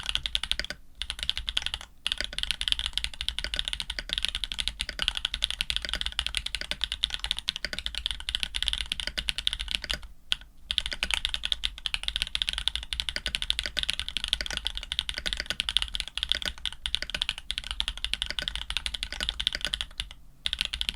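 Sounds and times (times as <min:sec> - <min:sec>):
mechanical keyboard typing: 0:00.0 - 0:20.9.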